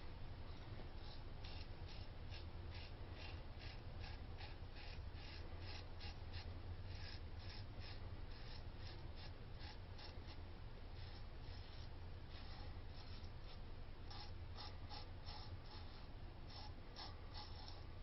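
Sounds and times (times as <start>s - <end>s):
faint steady hum: 0.0s - 18.0s
razor scraping through stubble: 1.0s - 17.9s.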